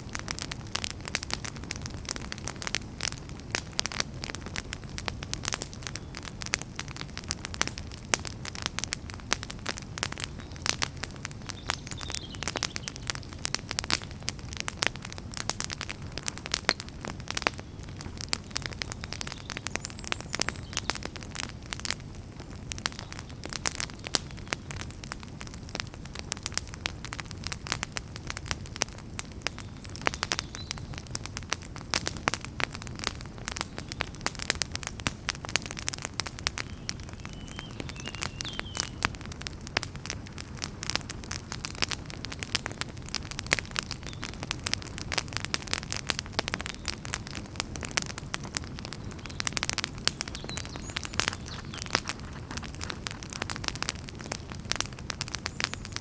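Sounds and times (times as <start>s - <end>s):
burning firewood popping and snapping: 0.0s - 56.0s
low rumble of flames: 0.0s - 56.0s.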